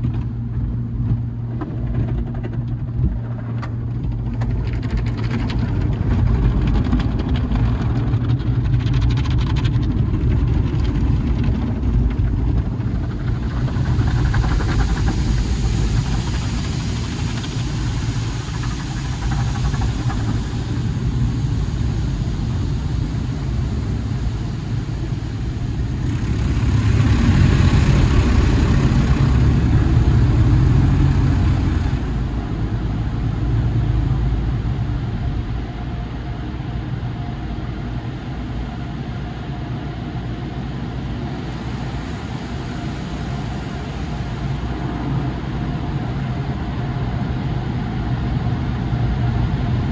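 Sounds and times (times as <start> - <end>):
car wash water spray rumble: 0.0 - 49.9.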